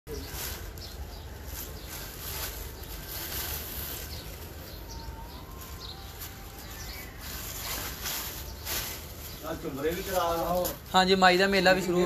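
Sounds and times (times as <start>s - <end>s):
outdoor hiss and rumble: 0.1s - 12.0s.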